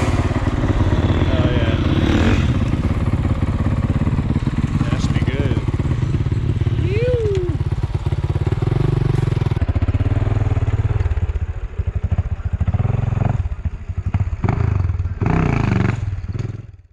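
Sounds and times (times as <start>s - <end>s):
motocross bike engine revving: 0.0s - 16.8s.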